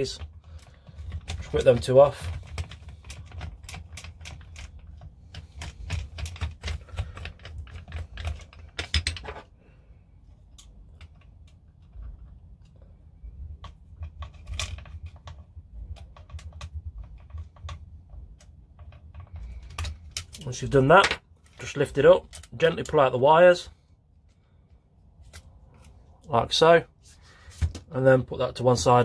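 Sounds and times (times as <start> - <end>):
small parts being handled: 0.0 - 26.3.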